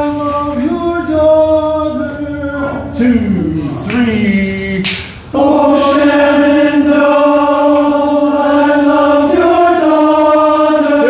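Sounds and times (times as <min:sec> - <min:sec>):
men's chorus singing in harmony: 0:00.0 - 0:11.0.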